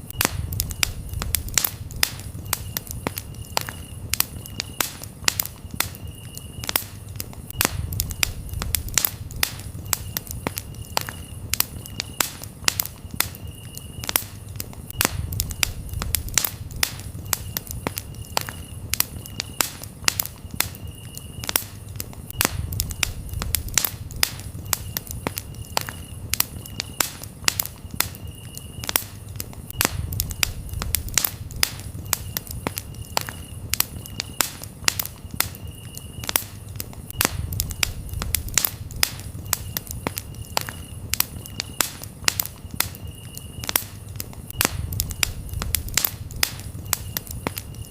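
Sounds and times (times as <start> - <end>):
campfire crackling and popping: 0.0 - 47.9
crickets chirping: 0.0 - 47.9.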